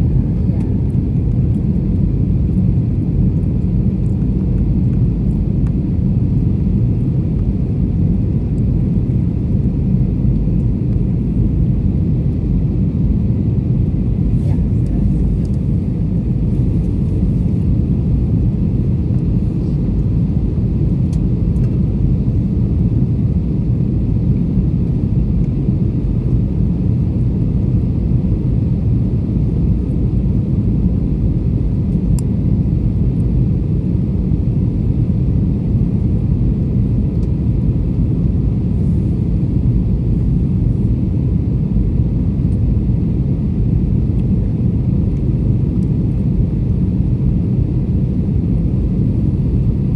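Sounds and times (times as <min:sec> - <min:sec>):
jet engine rumble: 0:00.0 - 0:49.9.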